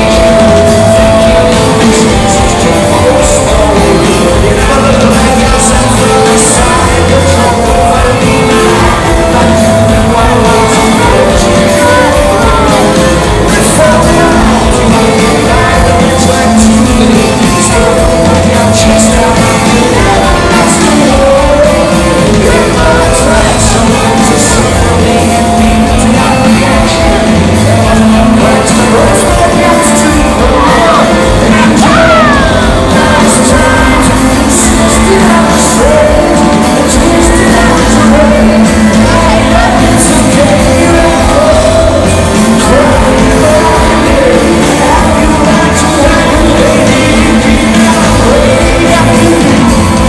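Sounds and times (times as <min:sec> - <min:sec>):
live rock band playing: 0:00.0 - 0:50.0
person singing: 0:00.0 - 0:50.0.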